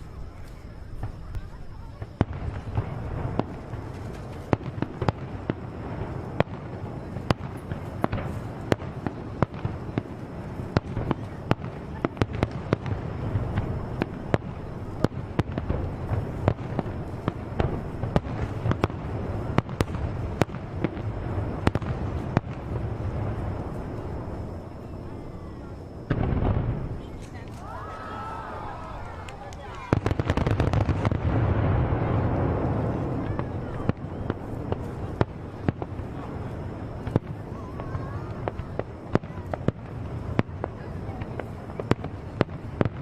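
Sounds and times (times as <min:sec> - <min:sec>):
fireworks crackling and banging: 0:00.0 - 0:43.0.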